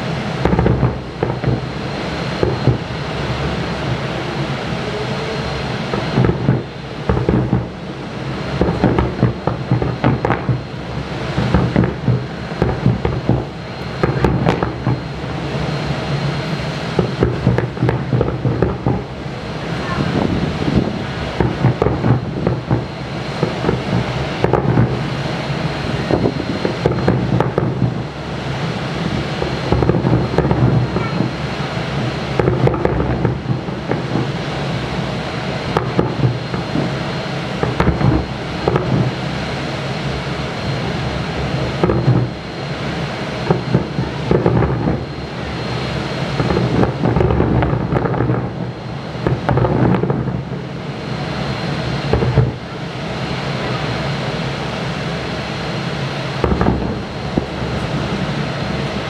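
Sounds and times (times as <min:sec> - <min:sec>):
sharp firework bangs: 0:00.0 - 0:04.9, 0:05.5 - 0:59.0
fireworks booms rumbling: 0:00.0 - 0:59.0.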